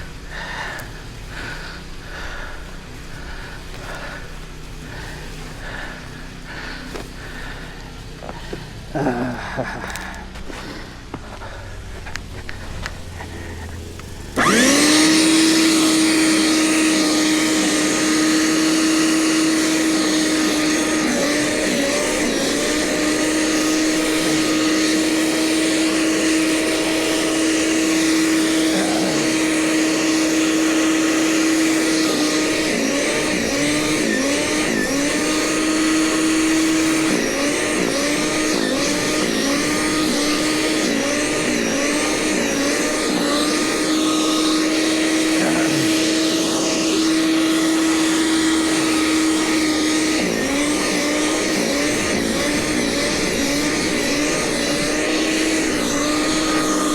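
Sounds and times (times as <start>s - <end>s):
snow blower engine running: 0.0s - 56.9s.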